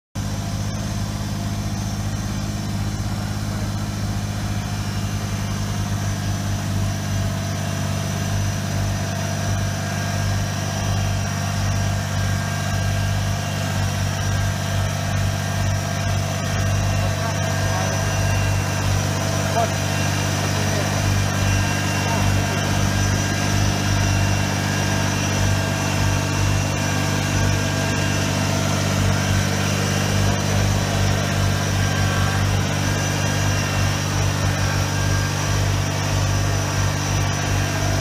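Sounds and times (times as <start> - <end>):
diesel tractor engine running: 0.2 - 38.0.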